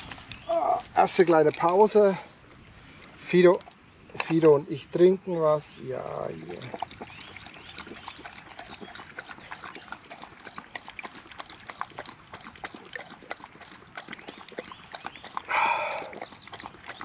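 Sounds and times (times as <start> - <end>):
dog lapping water: 0.9 - 17.0.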